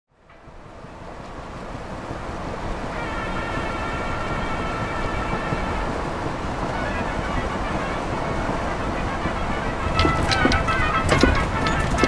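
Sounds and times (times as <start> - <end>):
van engine and road rumble: 0.1 - 12.0.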